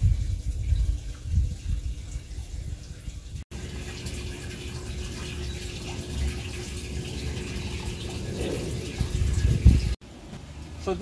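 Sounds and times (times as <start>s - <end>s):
water pouring into barrel: 0.0s - 10.0s.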